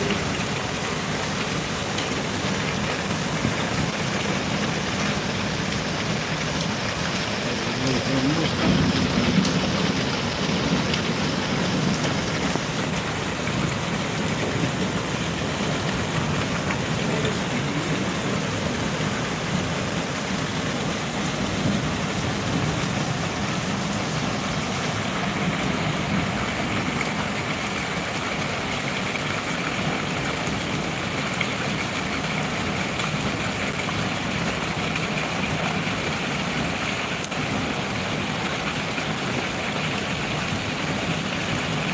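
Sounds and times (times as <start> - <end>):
heavy rain: 0.0 - 41.9.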